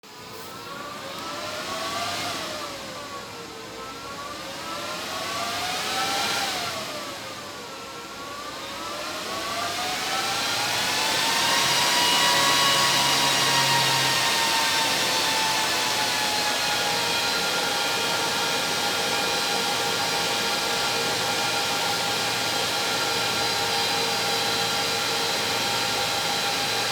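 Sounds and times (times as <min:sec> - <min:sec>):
machine whine: 0:00.1 - 0:26.9.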